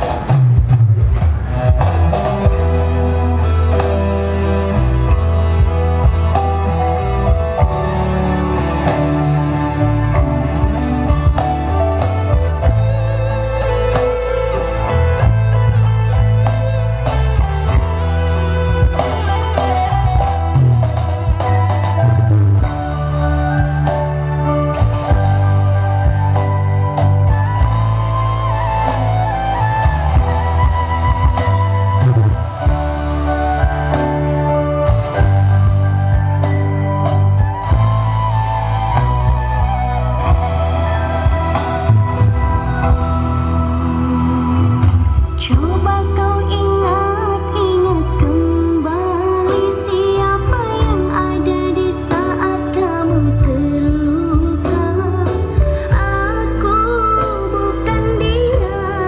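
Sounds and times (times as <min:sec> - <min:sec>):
loud band music with heavy bass: 0:00.0 - 0:59.0.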